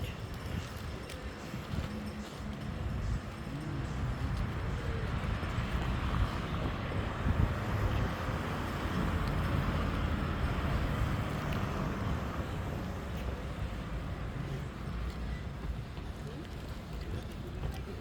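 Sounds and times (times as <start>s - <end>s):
low rumble of traffic: 0.0s - 18.0s.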